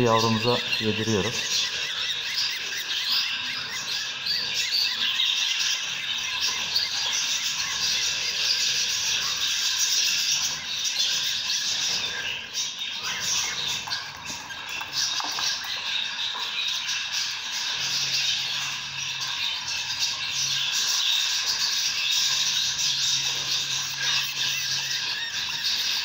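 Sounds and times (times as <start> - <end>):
budgerigar chicks cheeping: 0.0 - 26.0.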